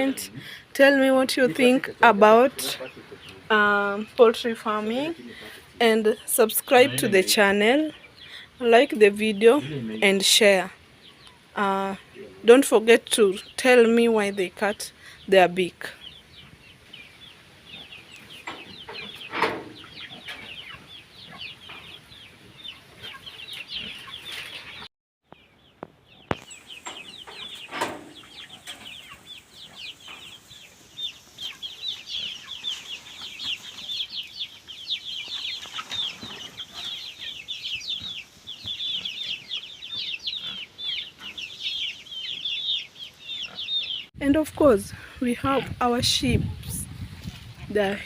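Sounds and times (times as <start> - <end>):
chickens cheeping and clucking: 0.0 - 48.0.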